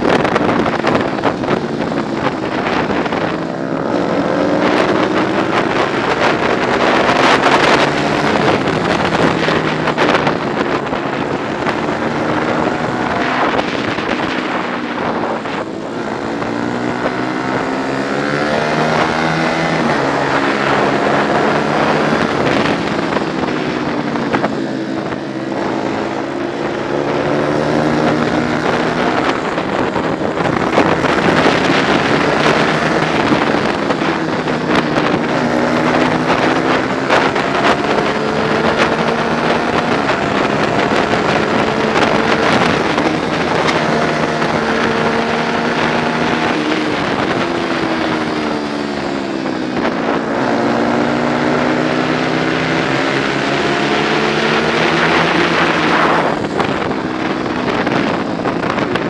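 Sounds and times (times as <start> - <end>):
motorcycle engine revving: 0.0 - 59.0
wind noise on microphone: 0.0 - 59.0.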